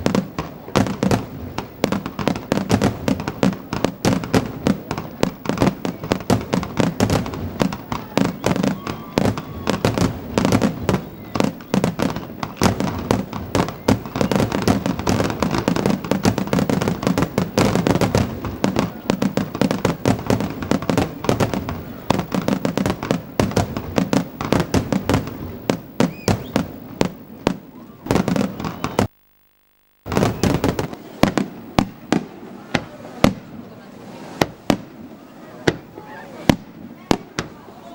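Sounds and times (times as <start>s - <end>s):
fireworks bursting: 0.0s - 37.9s.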